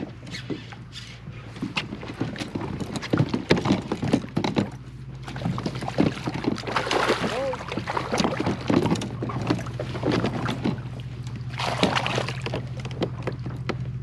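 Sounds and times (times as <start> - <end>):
low hum: 0.0 - 14.0
kayak and tackle knocking: 1.6 - 14.0.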